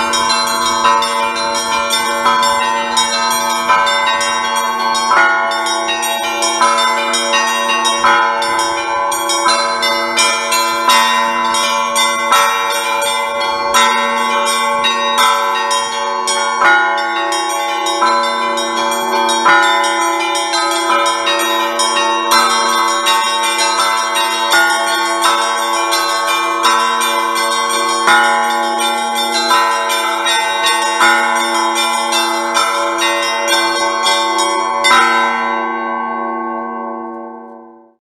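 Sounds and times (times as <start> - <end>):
heavy bell strikes: 0.0 - 38.0
small church bells pealing: 0.0 - 38.0.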